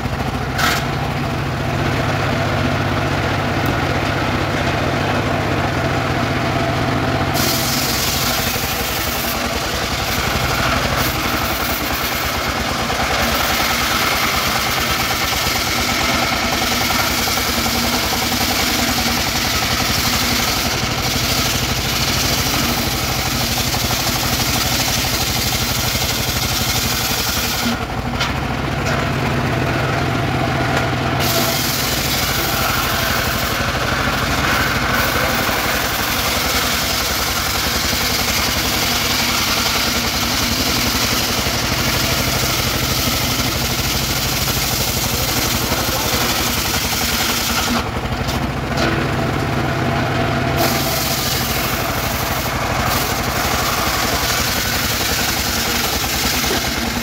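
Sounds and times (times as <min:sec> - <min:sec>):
circular saw cutting log: 0:00.0 - 0:57.0
sawmill engine running: 0:00.0 - 0:57.0.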